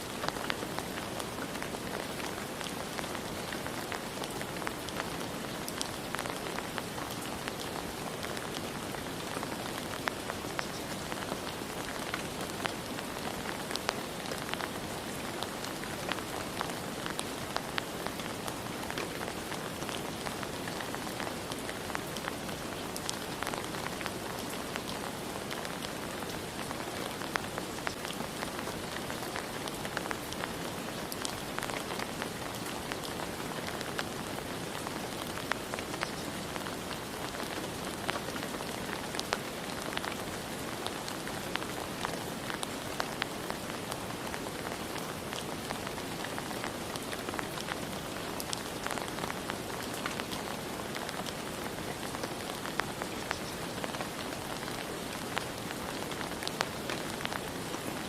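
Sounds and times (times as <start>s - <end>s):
steady rain hissing: 0.0s - 58.0s
raindrops ticking: 0.2s - 58.0s.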